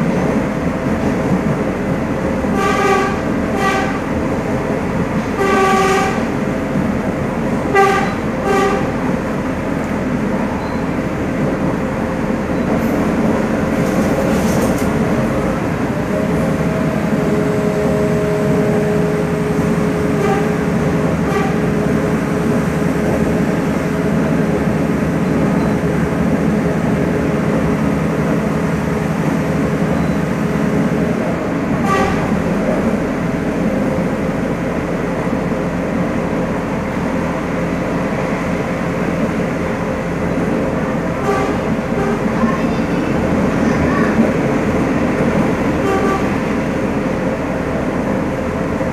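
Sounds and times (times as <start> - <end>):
train rumbling along track: 0.0 - 48.9.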